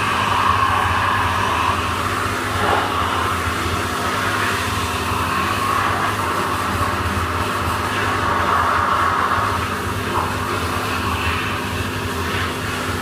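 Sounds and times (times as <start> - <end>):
high-pressure water spray hissing: 0.0 - 13.0
pressure washer machine hum: 0.0 - 13.0.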